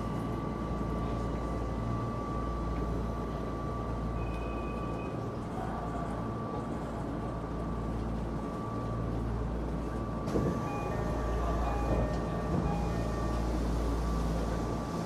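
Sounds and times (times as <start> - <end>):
train equipment humming and whining: 0.0 - 15.0.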